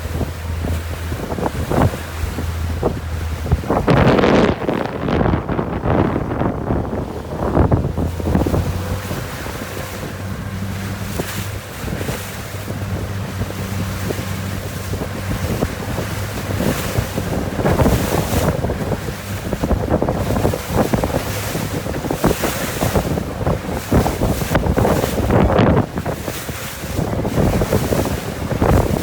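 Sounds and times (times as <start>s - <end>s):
water splashing along boat hull: 0.0s - 29.0s
wind buffeting microphone: 0.0s - 29.0s.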